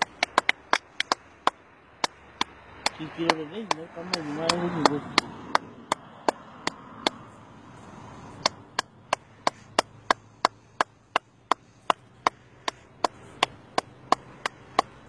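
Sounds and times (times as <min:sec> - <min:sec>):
hands clapping: 0:00.0 - 0:07.2, 0:08.4 - 0:15.0.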